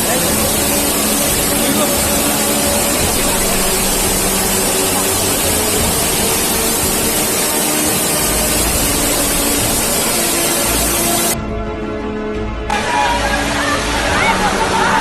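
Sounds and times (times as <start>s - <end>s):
floodwater rushing: 0.0s - 11.4s, 12.7s - 15.0s.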